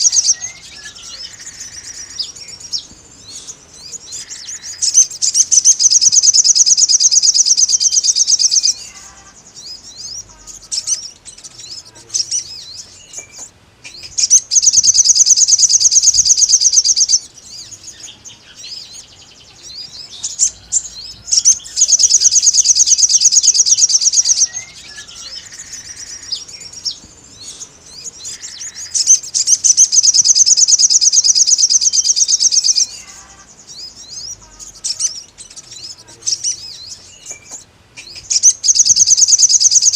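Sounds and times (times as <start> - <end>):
bird chirps: 0.0 - 39.9
sunbird high trilling: 0.0 - 39.9.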